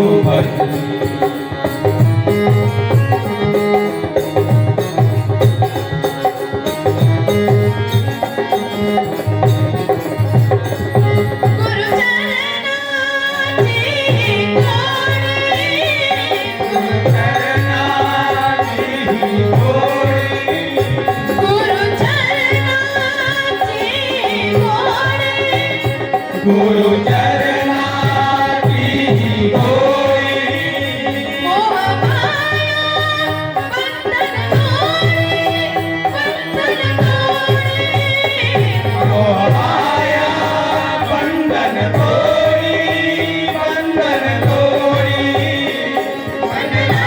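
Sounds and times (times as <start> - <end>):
person singing: 0.0 - 2.4, 11.2 - 47.0
harmonium held notes: 0.0 - 47.0.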